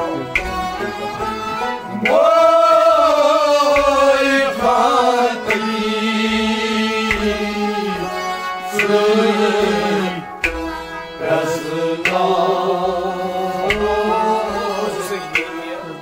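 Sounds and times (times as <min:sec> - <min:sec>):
man singing: 0:00.0 - 0:10.3, 0:11.2 - 0:16.0
bowed sarangi: 0:00.0 - 0:16.0
plucked rabab: 0:00.0 - 0:16.0.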